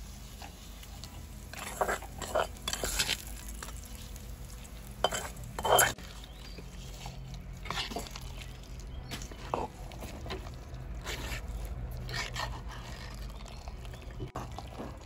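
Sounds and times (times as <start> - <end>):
ladle squelching through mash: 0.0 - 15.0
ladle scraping clay pot: 1.2 - 15.0.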